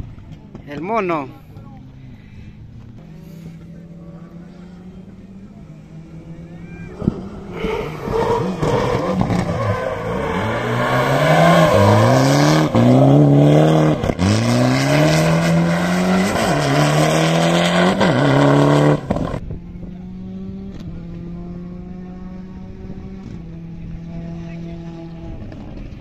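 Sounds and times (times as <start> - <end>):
rally car accelerating: 1.8 - 26.0.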